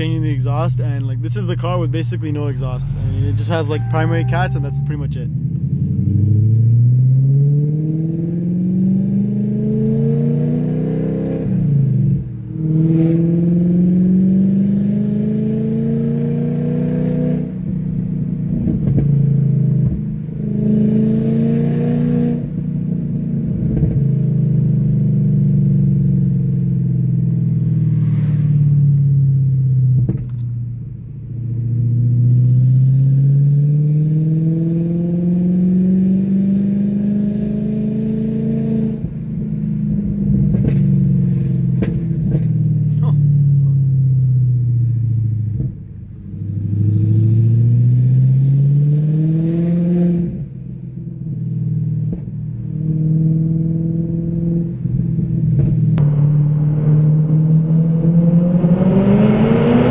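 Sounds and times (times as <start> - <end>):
unsilenced car engine revving: 0.0 - 59.9.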